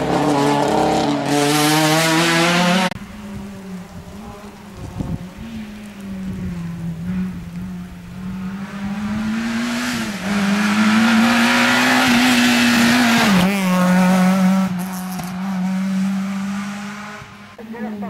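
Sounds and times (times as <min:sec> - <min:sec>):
rally car engine passing by: 0:00.0 - 0:17.6.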